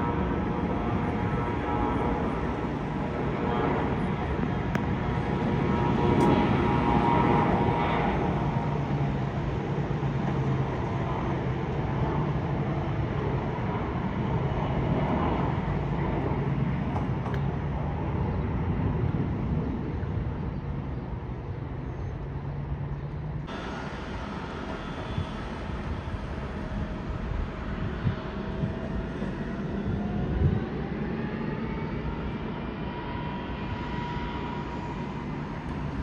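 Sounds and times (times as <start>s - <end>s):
jet engine rumble: 0.0s - 36.0s.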